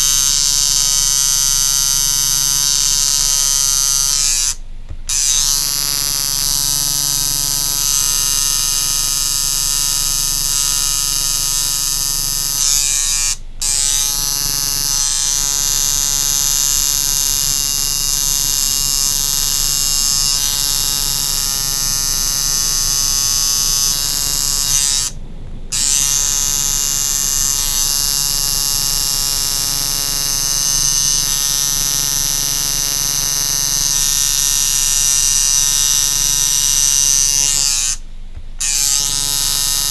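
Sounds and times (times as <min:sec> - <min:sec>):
tattoo machine buzzing: 0:00.0 - 0:39.9.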